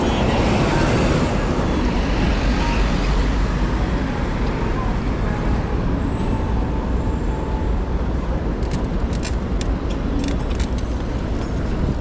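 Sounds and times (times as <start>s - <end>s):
tyre and wind noise: 0.0s - 12.0s.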